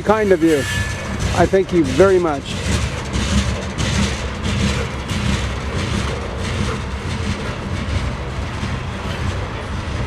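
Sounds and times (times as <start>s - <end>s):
faint rail clatter: 0.0s - 10.0s
freight train wheels rumbling: 0.0s - 10.0s.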